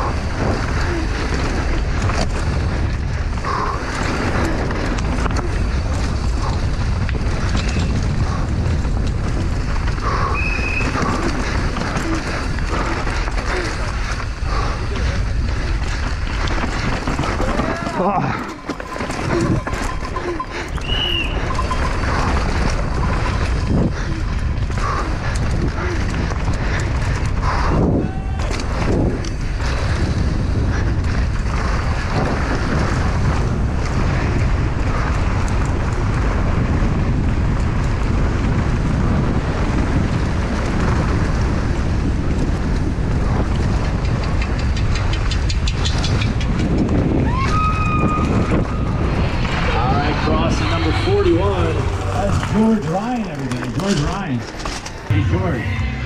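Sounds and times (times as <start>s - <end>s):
wind on microphone: 0.0s - 53.8s
mountain bike rattling on trail: 0.0s - 55.1s.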